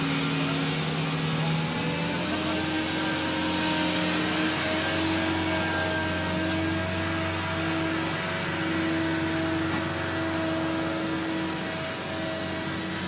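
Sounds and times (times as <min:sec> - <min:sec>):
jet engines taxiing: 0:00.0 - 0:13.0.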